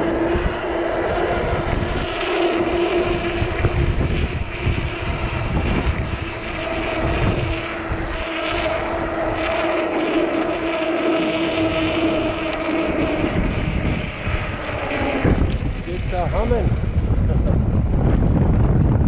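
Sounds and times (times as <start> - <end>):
electric bike motor whine: 0.0 - 19.0
wind buffeting microphone: 0.0 - 19.0.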